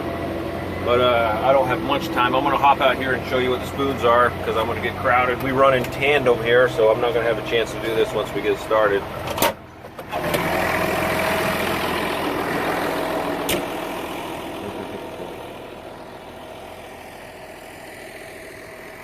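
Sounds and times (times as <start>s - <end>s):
diesel tractor engine idling: 0.0s - 19.0s.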